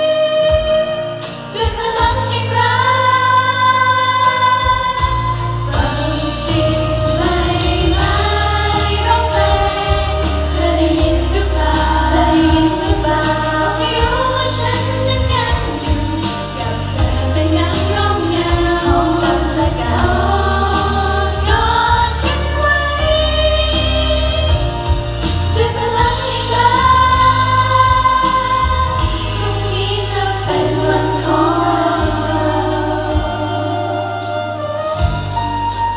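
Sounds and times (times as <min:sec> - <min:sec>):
backing track with strong bass: 0:00.0 - 0:35.9
women singing pop song: 0:00.0 - 0:35.9.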